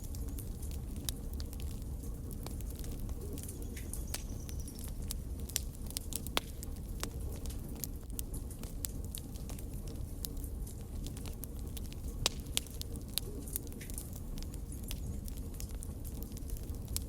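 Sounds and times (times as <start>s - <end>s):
fire snaps and pops: 0.0s - 17.0s
low rumble of flames: 0.0s - 17.0s.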